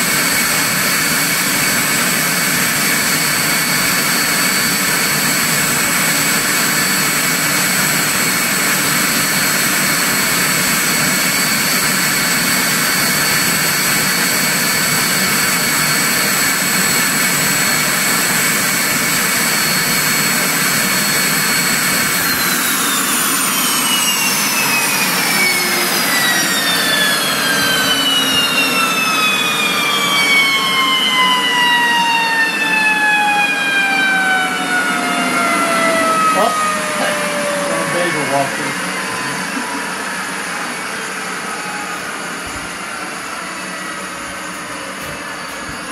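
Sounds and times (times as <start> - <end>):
turbine engine whine: 0.0 - 45.9.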